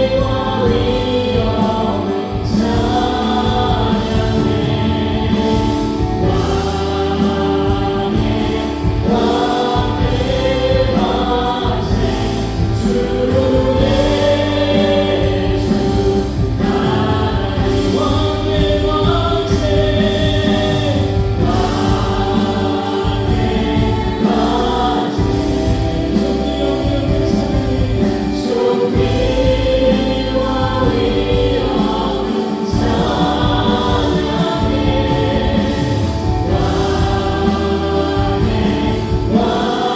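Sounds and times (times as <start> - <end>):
praise band playing: 0.0 - 39.9
voices singing together: 0.0 - 39.9.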